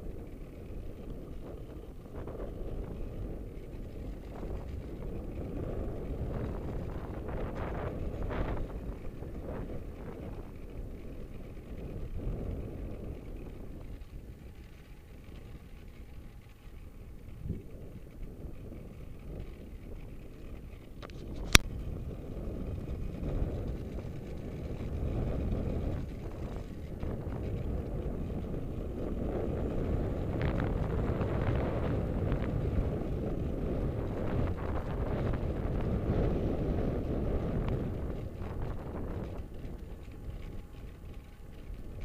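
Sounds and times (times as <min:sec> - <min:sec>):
bicycle tyres rolling on road: 0:00.0 - 0:42.0
wind buffeting microphone: 0:00.0 - 0:42.0.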